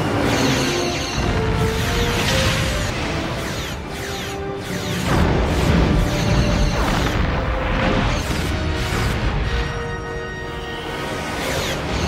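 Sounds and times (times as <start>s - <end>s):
orchestral battle music: 0.0s - 12.0s.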